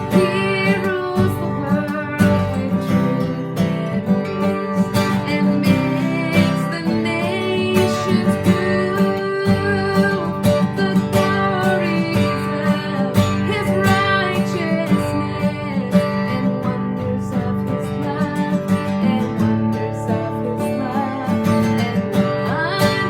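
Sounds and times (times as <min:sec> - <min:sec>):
strummed acoustic guitar: 0:00.0 - 0:23.0
sung melodic line: 0:00.0 - 0:23.0.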